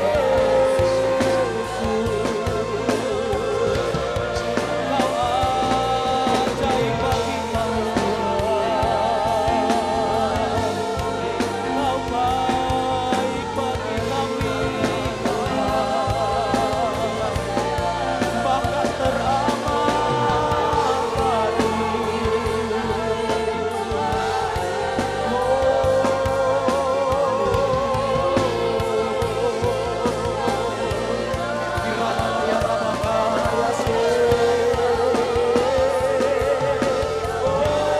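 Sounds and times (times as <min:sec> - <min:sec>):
band playing: 0:00.0 - 0:37.9
people singing long notes: 0:00.0 - 0:37.9.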